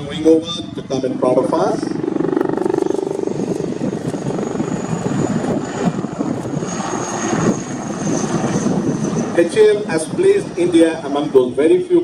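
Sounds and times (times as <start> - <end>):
helicopter rotor beating: 0.0 - 11.6
high turbine whine: 0.0 - 12.0.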